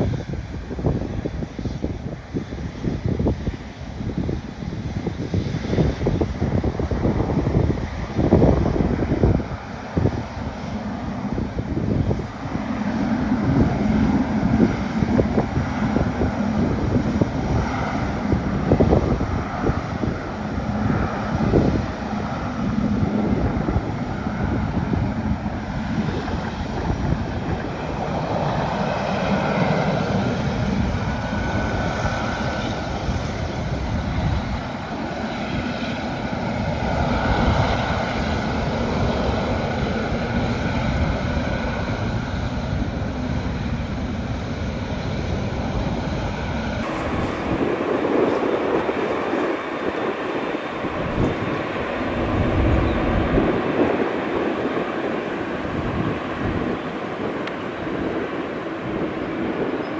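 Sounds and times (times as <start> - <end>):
jet engines running: 0.0 - 59.9
wind buffeting microphone: 0.0 - 59.9.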